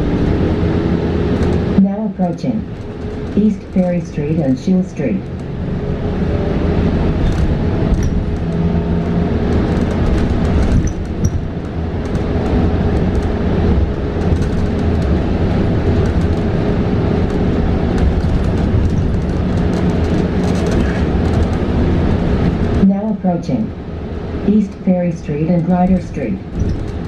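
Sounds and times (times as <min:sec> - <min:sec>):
bus hum: 0:00.0 - 0:27.0
road and tyre rumble: 0:00.0 - 0:27.0.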